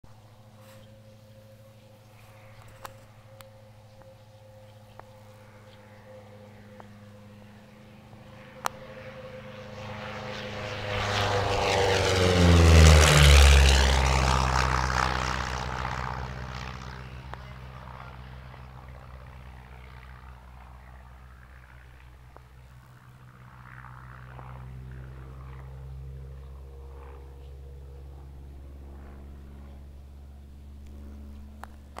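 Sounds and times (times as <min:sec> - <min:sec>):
propeller plane flying past: 0:00.1 - 0:32.0.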